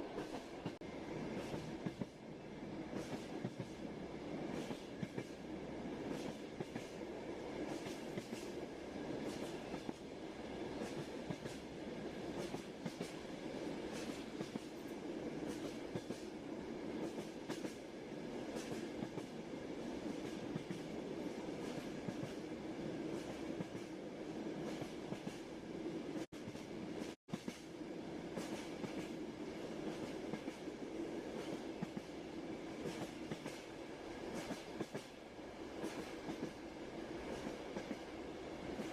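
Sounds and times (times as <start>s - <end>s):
train wheels rumbling on track: 0.0s - 38.9s.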